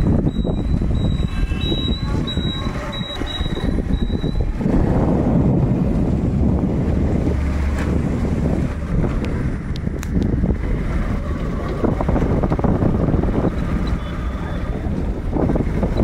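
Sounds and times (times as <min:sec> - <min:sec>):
vehicle rumble on road: 0:00.0 - 0:16.0
wind buffeting microphone: 0:00.0 - 0:16.0.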